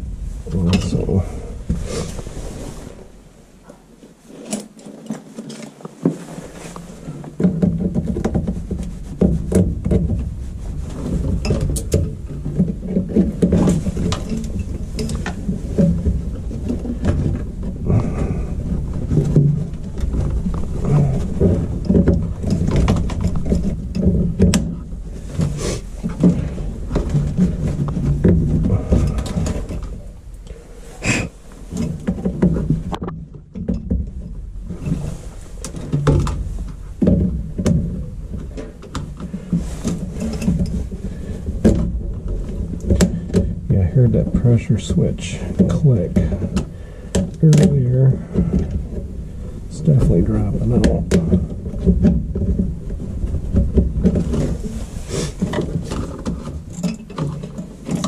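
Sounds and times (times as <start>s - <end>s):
gas furnace rumbling: 0.0s - 4.3s, 6.3s - 58.0s
wiring rattles and clicks: 0.0s - 58.0s.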